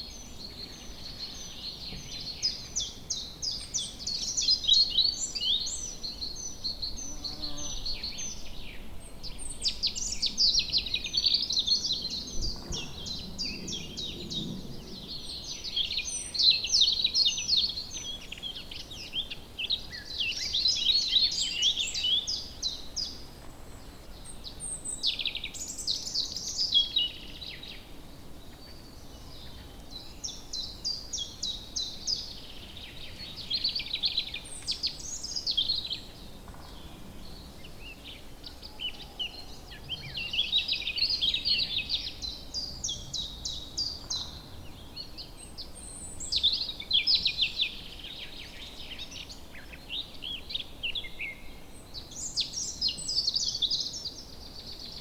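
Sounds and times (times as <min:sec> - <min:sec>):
faint steady background noise: 0:00.0 - 0:55.0.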